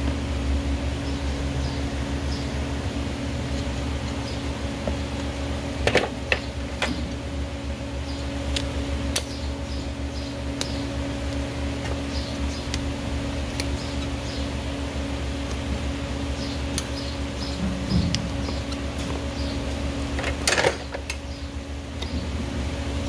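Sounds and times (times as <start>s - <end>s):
fan-like hum: 0.0s - 23.0s.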